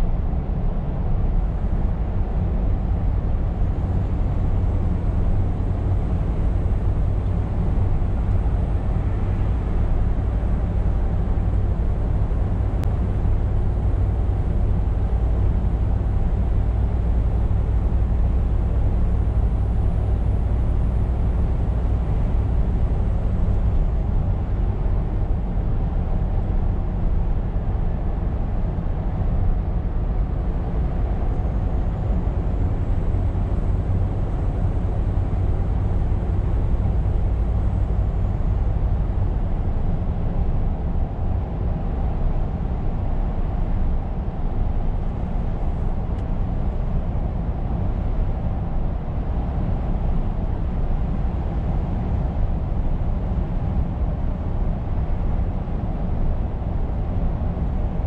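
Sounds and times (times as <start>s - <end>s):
truck engine drone: 0.0s - 58.0s.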